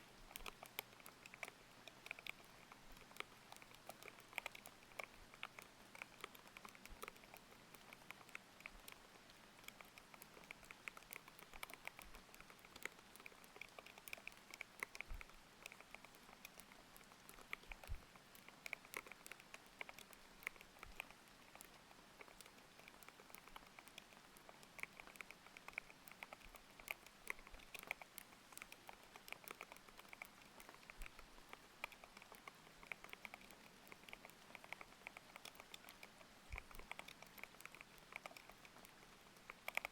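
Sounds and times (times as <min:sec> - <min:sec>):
faint rain: 0:00.0 - 0:39.9
mechanical keyboard typing: 0:00.0 - 0:39.9.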